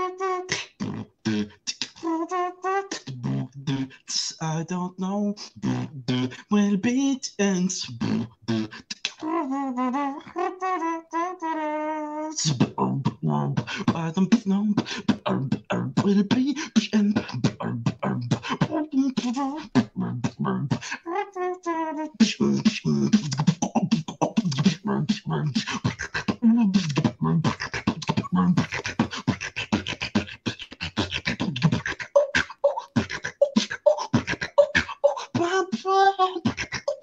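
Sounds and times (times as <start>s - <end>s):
man beatboxing: 0.0s - 37.0s.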